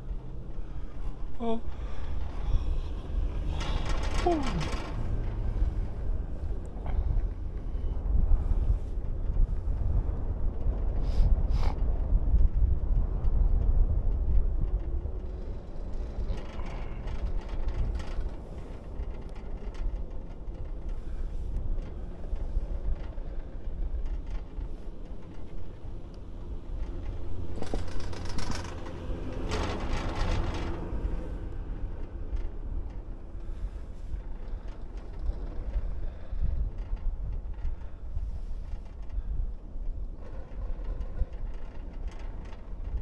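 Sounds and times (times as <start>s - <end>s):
chairlift low rumble: 0.0s - 43.0s
chairlift whirring rush: 0.0s - 43.0s
wind buffeting microphone: 0.0s - 43.0s.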